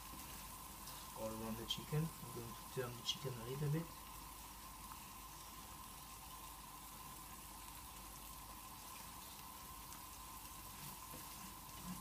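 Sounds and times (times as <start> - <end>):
sauce simmering in a pan: 0.0 - 12.0
thin steady whine: 0.0 - 12.0.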